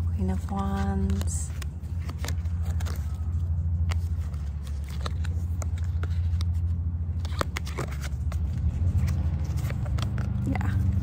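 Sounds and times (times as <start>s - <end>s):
steady low rumble: 0.0s - 11.0s
cards clicking and snapping: 0.7s - 11.0s.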